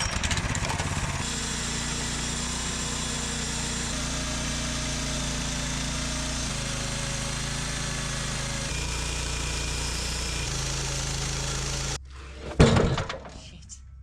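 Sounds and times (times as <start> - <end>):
sawmill engine sawing: 0.0 - 12.2.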